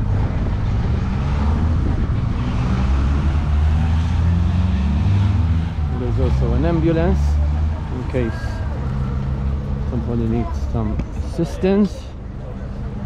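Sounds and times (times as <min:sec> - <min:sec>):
street noise: 0:00.0 - 0:13.0
vehicle engine running: 0:00.0 - 0:13.0.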